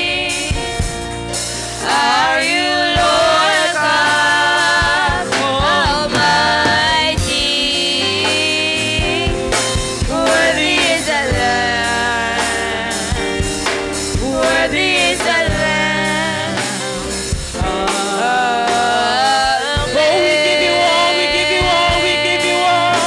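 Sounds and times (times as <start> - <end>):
band with drum kit: 0.0 - 23.0
women singing gospel: 0.0 - 23.0.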